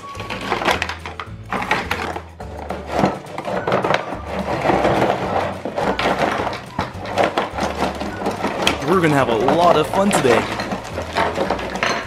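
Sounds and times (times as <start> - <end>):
plastic pieces clattering: 0.0 - 12.0.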